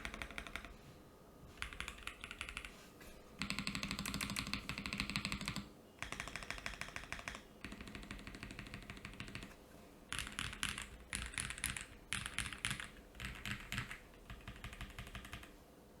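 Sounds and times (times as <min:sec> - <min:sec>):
mechanical keyboard typing: 0:00.0 - 0:00.7, 0:01.6 - 0:02.7, 0:03.4 - 0:09.5, 0:10.1 - 0:15.5.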